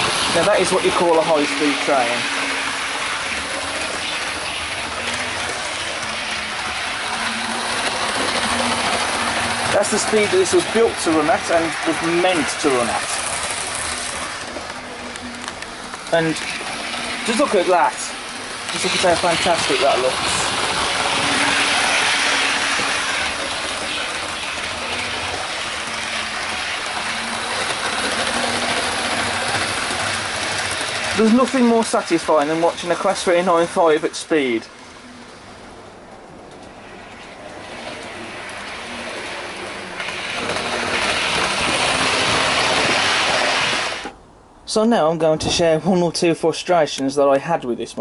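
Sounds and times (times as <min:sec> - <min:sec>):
model train running on track: 0:00.0 - 0:35.8, 0:36.5 - 0:44.2.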